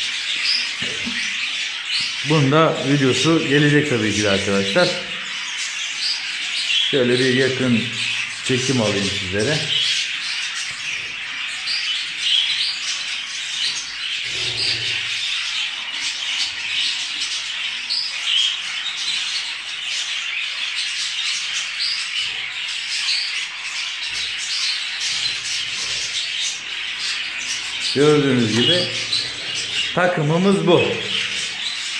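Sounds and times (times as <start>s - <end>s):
budgerigars chirping and chattering: 0.0s - 31.9s.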